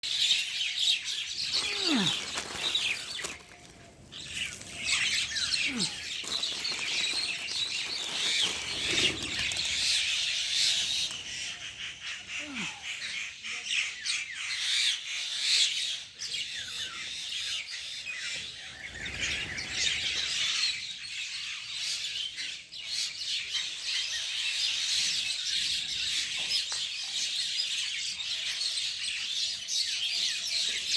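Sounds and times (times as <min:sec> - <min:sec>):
birds chirping and twittering: 0:00.0 - 0:30.9.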